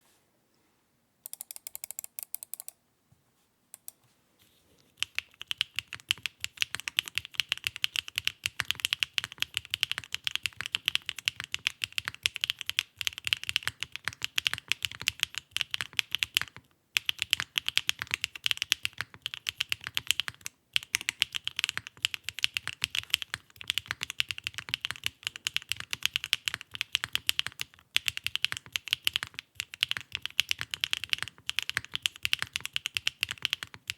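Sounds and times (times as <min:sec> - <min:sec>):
fast mechanical keyboard typing: 0:05.0 - 0:33.9.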